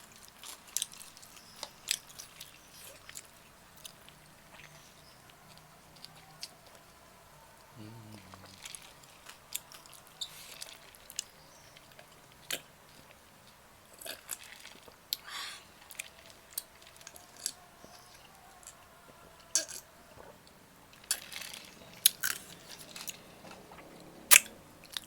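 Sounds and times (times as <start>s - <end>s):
chewing and biting food: 0.1s - 25.0s.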